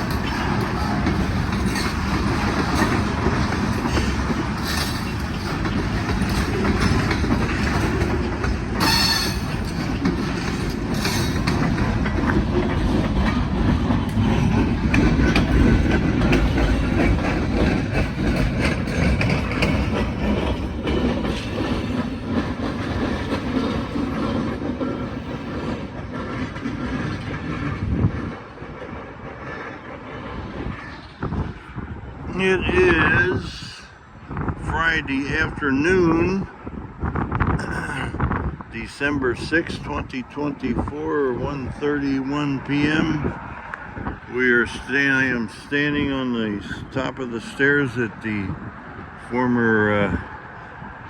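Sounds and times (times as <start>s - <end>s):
clickety-clack over rail joints: 0.0s - 51.0s
steel wheels rumbling on rail: 0.0s - 51.0s.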